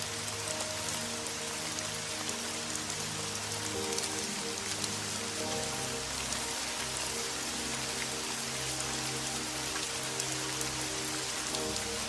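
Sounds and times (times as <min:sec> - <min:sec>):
raindrops ticking: 0:00.0 - 0:12.0
soft music of held low notes: 0:00.0 - 0:12.0
steady rain: 0:00.0 - 0:12.0.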